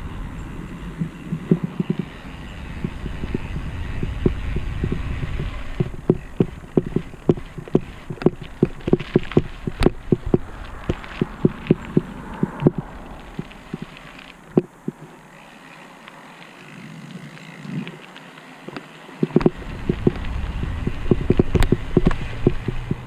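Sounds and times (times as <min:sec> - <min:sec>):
sharp regular thumps: 0:00.0 - 0:15.4, 0:19.2 - 0:23.0
road travel rumble: 0:00.0 - 0:23.0.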